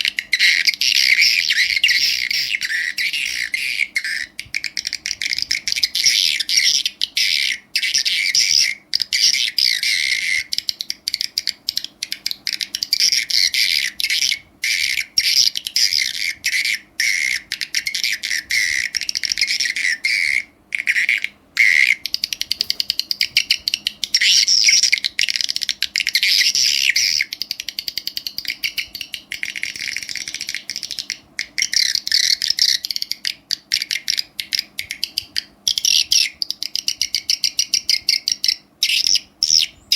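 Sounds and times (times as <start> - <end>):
recorded swiftlet calls from speaker: 0.0 - 27.8, 28.4 - 39.9.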